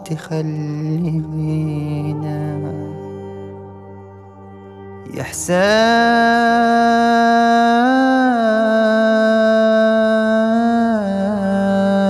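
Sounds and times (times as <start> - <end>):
man singing a long note: 0.0 - 4.0, 4.8 - 12.0.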